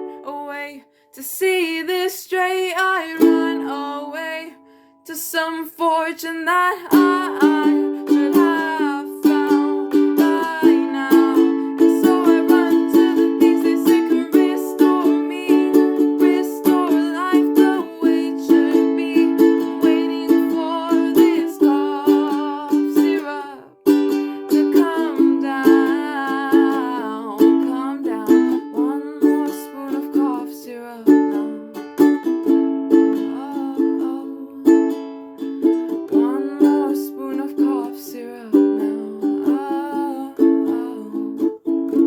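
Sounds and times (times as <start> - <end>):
acoustic stringed instrument strummed: 6.8 - 42.0.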